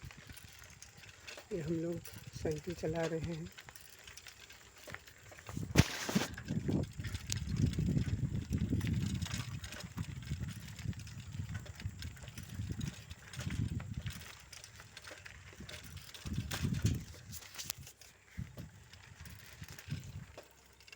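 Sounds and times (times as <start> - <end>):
bicycle riding rumble: 0.0 - 20.9.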